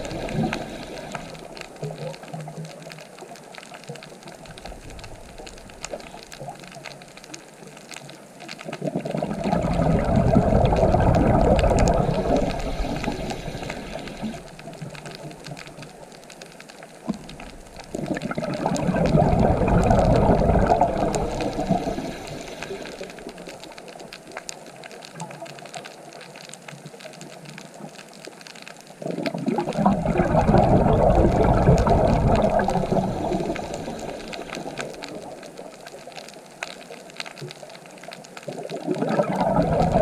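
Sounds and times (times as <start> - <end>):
rushing water: 0.0 - 26.3, 26.9 - 40.0.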